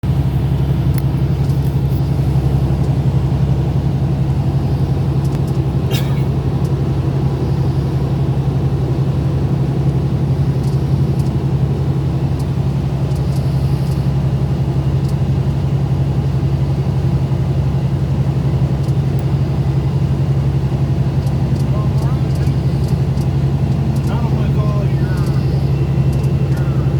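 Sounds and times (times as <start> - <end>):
car engine humming: 0.0 - 26.9.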